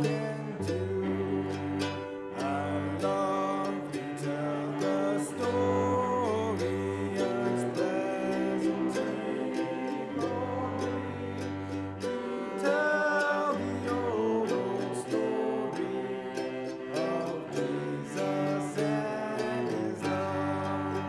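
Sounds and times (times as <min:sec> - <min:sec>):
acoustic guitar: 0:00.0 - 0:21.0
hymn singing: 0:00.0 - 0:21.0.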